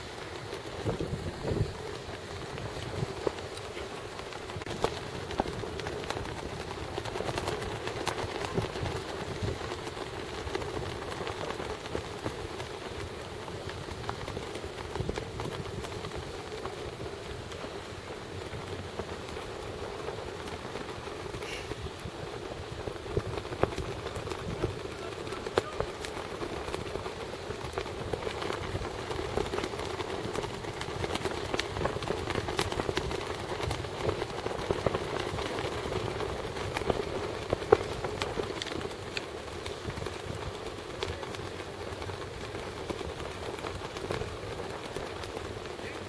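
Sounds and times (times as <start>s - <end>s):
sharp clicks and crackles: 0.0s - 46.0s
wind buffeting microphone: 0.0s - 46.0s.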